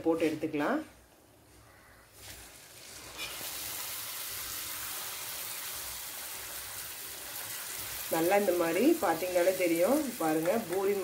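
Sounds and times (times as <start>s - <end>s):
dough deep-frying in hot oil: 2.1s - 11.0s.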